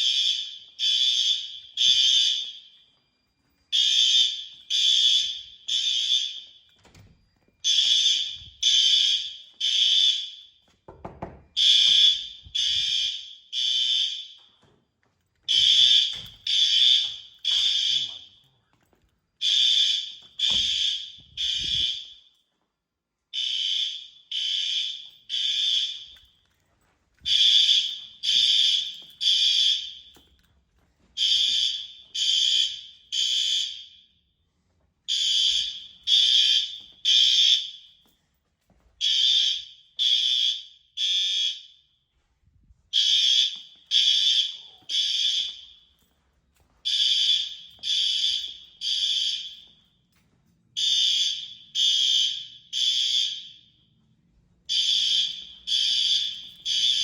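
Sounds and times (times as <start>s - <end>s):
fire alarm horn beeps: 0.0s - 10.8s, 11.4s - 14.6s, 15.5s - 18.6s, 19.4s - 22.4s, 23.3s - 26.4s, 27.2s - 30.4s, 31.2s - 34.4s, 35.1s - 38.1s, 39.0s - 46.1s, 46.8s - 50.2s, 50.8s - 54.0s, 54.6s - 57.0s.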